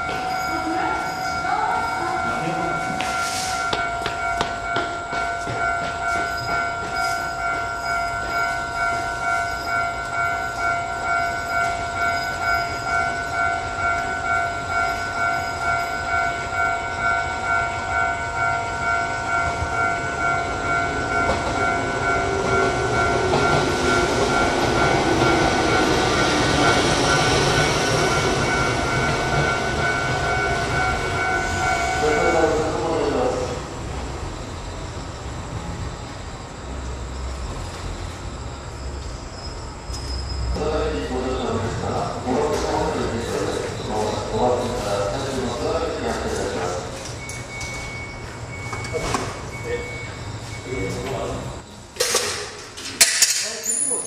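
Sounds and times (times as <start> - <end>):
electronic warning bell ringing: 0.0 - 33.4, 40.0 - 51.3
electric train passing: 0.0 - 52.8.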